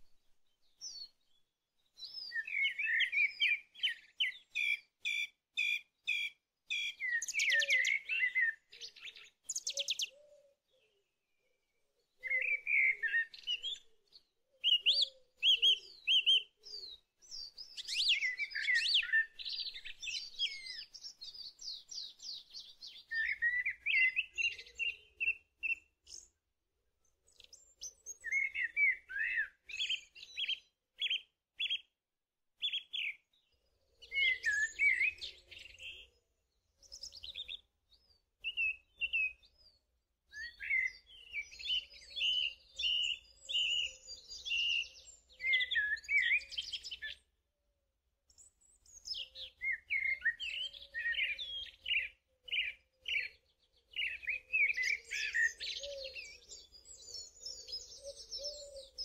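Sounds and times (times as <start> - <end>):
small birds chirping: 0.0 - 32.0, 32.6 - 47.4, 48.2 - 59.0.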